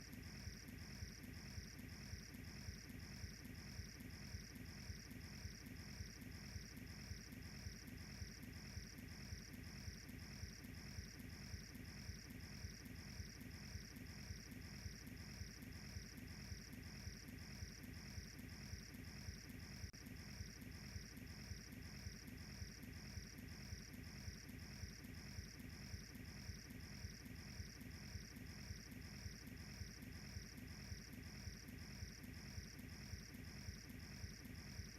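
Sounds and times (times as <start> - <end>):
cricket chirping: 0.0 - 34.9.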